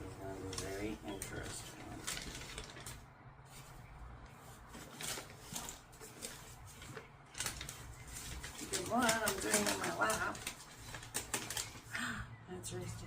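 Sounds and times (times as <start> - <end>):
adhesive sheet rustles and clicks: 0.4 - 11.9.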